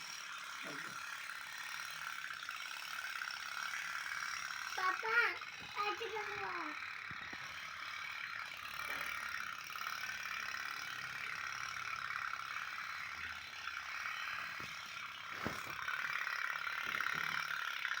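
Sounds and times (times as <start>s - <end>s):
toy steam boat puttering: 0.0s - 18.0s.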